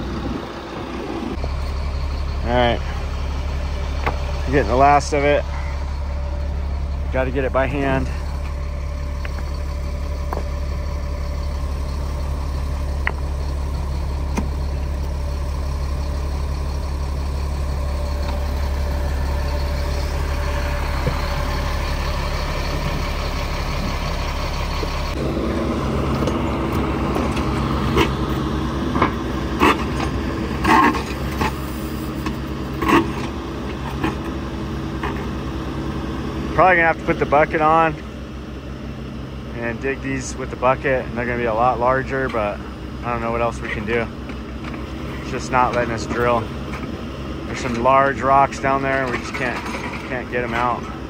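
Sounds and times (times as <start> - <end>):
excavator diesel engine running: 0.0 - 51.0
auger working in rocky ground: 0.1 - 34.4, 43.1 - 51.0.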